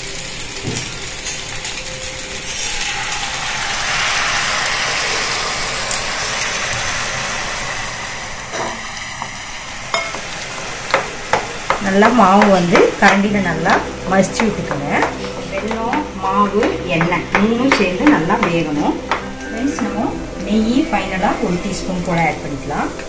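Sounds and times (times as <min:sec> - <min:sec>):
syrup sizzling in hot oil: 0:00.0 - 0:23.0.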